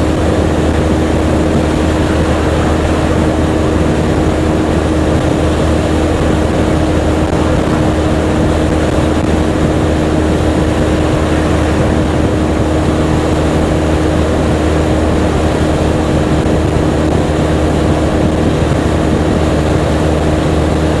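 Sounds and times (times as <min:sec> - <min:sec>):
motorcycle engine droning: 0:00.0 - 0:21.0
wind rush: 0:00.0 - 0:21.0.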